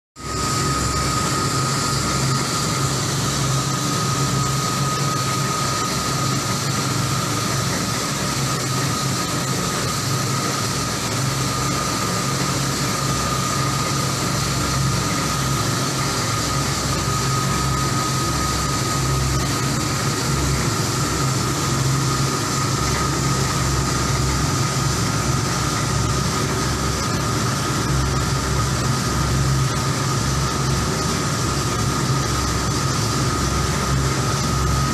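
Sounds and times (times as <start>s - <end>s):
steady high whine: 0.2s - 34.9s.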